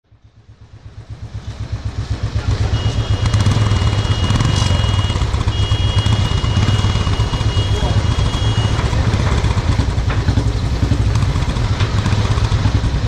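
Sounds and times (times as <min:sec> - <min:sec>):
motorcycle engine running: 0:00.1 - 0:13.0.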